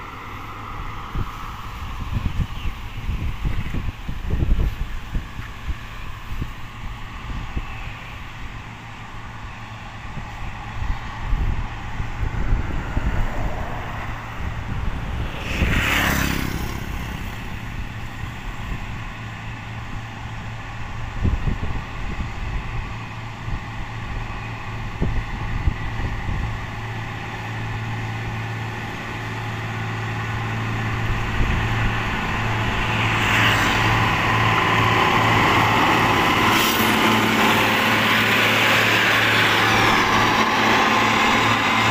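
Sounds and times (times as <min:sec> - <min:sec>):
diesel motor grader engine: 0:00.0 - 0:41.9.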